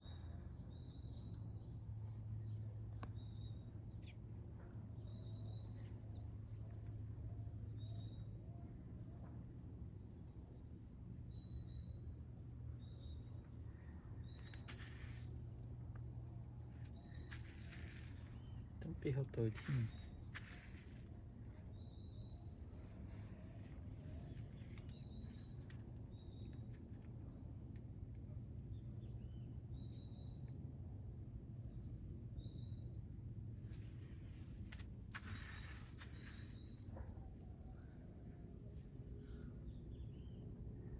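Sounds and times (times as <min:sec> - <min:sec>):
faint low rumble: 0:00.0 - 0:40.9
high insect drone: 0:00.0 - 0:40.9.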